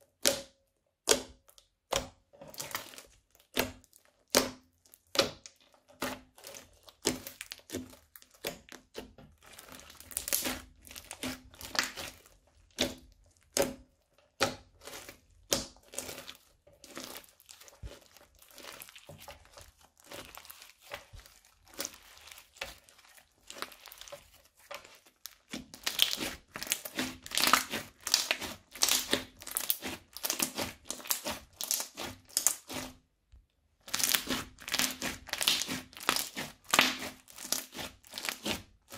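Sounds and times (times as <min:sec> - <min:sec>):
crunchy slime squeezed by hand: 0:06.0 - 0:33.0, 0:33.8 - 0:38.9.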